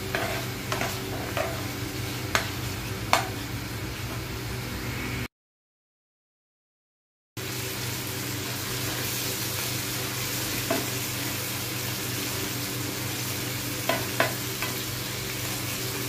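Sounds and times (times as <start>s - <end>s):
masala sizzling in frying pan: 0.0s - 4.7s, 7.4s - 16.0s.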